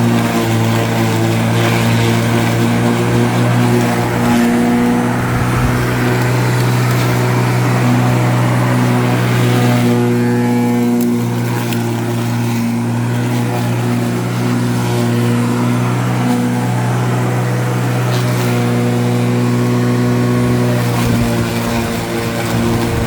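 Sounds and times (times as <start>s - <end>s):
lawn mower engine cutting grass: 0.0s - 23.0s.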